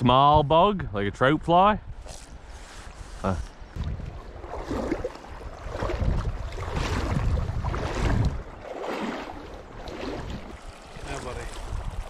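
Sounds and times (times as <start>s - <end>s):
wind rumbling on microphone: 0.0s - 12.0s
water sloshing around wading legs: 2.0s - 12.0s.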